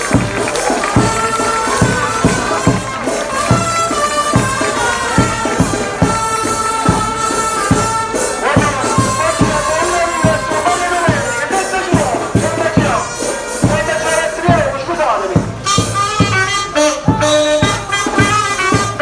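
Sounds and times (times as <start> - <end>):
festive melody: 0.0 - 19.0
steady drum beat: 0.0 - 19.0.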